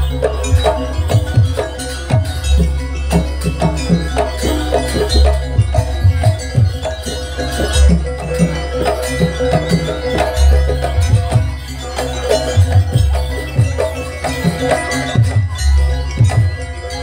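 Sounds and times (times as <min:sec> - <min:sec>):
hand drums beating fast rhythm: 0:00.0 - 0:17.0.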